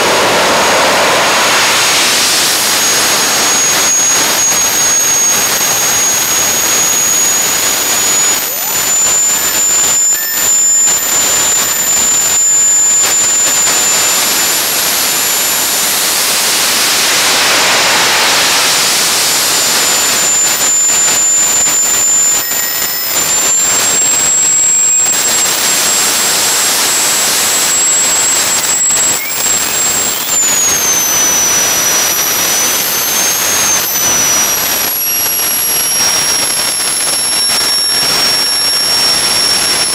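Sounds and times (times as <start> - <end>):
high-pitched turbine whine: 0.0 - 39.9
turbojet engine roaring: 0.0 - 39.9.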